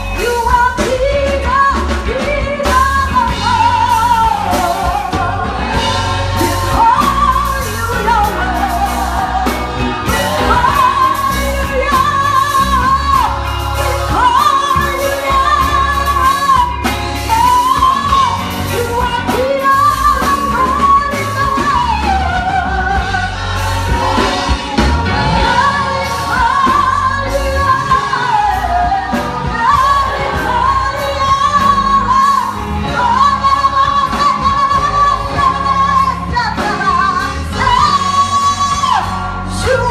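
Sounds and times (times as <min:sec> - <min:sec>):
band with bass and drums: 0:00.0 - 0:39.9
voices singing praise song: 0:00.0 - 0:39.9.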